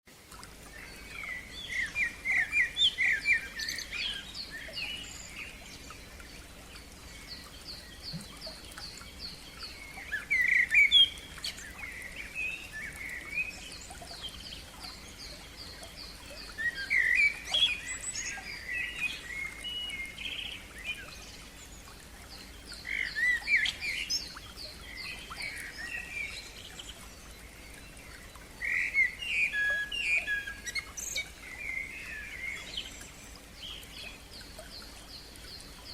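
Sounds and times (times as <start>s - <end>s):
songbirds chirping: 0.1s - 35.9s.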